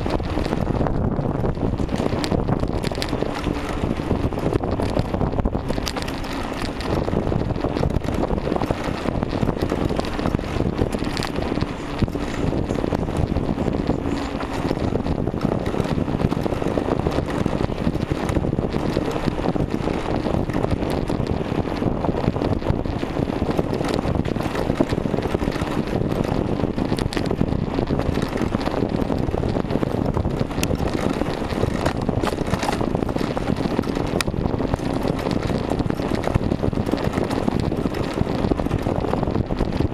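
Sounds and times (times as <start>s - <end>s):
bicycle clicks and rattles: 0.0s - 39.9s
wind buffeting microphone: 0.0s - 39.9s.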